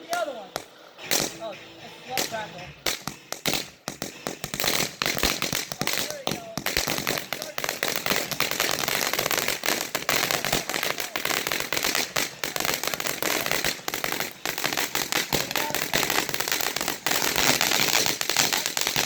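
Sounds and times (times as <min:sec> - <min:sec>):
crackling firework pops: 0:00.0 - 0:19.0.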